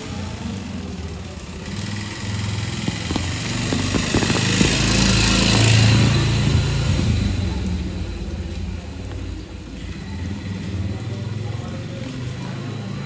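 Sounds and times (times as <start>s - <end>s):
heavy rain hiss: 0.0s - 13.0s
motorbike engine passing: 0.0s - 13.0s.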